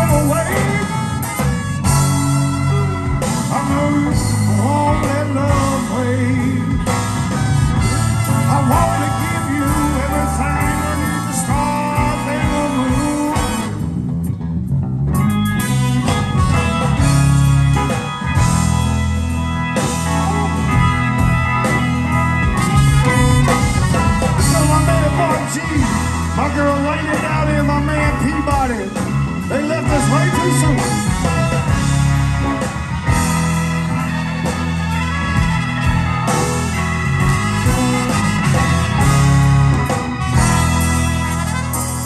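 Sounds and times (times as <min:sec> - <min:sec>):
bass guitar: 0:00.0 - 0:42.0
drum kit: 0:00.0 - 0:42.0
electric guitar: 0:00.0 - 0:42.0.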